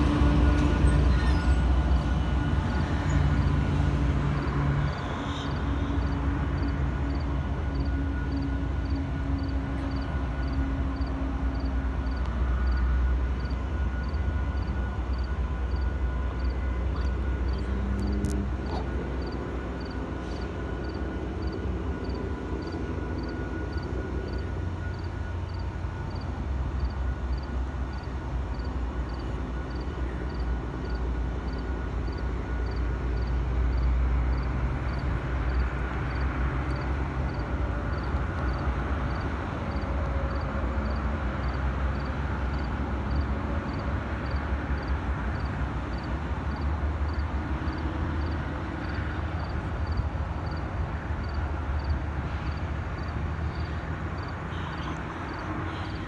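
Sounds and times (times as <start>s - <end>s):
locomotive engine rumble: 0.0s - 56.0s.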